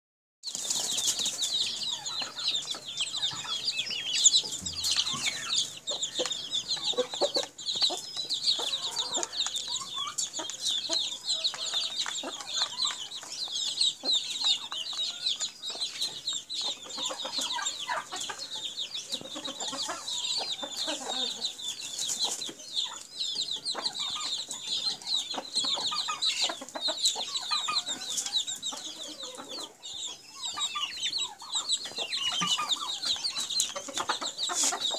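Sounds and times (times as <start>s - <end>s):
chicks peeping: 0.4s - 34.9s
hens clucking: 0.5s - 34.9s.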